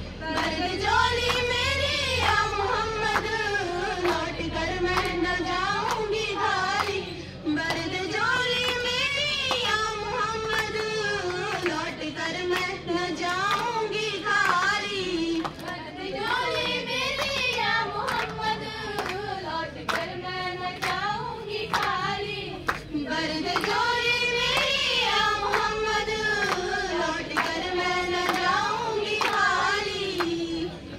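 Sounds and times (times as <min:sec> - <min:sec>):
girls singing through a microphone: 0:00.0 - 0:30.9
rhythmic hand claps: 0:00.2 - 0:07.0, 0:07.6 - 0:30.8.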